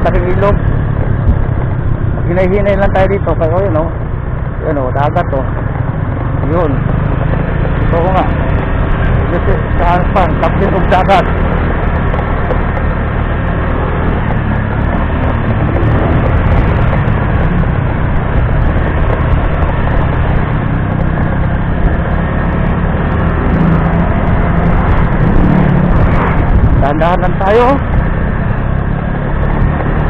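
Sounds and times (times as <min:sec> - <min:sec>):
motorcycle engine rumble: 0:00.0 - 0:30.0
motorcycle passing: 0:00.0 - 0:30.0.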